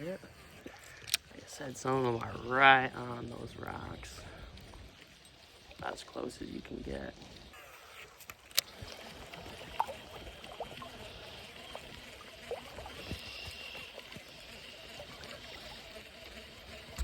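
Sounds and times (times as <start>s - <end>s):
water splashes: 0.0s - 17.0s
water trickling over rocks: 0.0s - 17.0s.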